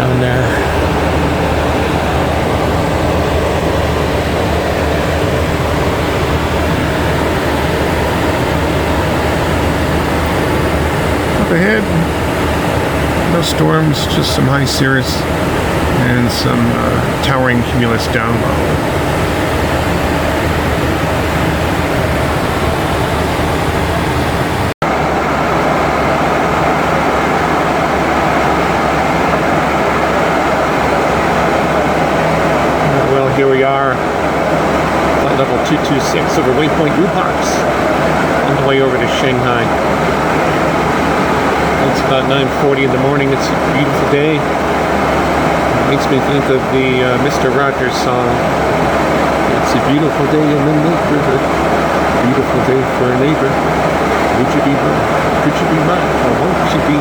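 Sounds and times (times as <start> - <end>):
airflow and engine noise: 0.0 - 57.0
low hum: 0.0 - 57.0.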